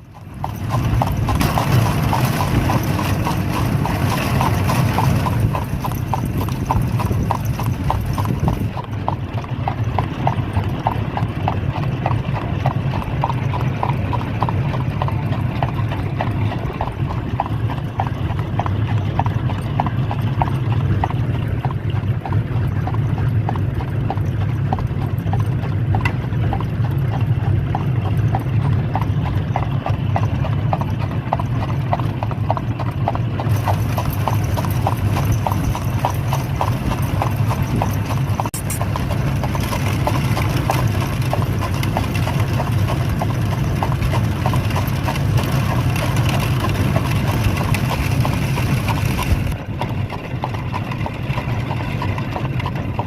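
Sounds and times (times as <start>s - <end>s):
horse hooves trotting on road: 0.0s - 53.0s
wheels rumbling: 0.0s - 53.0s.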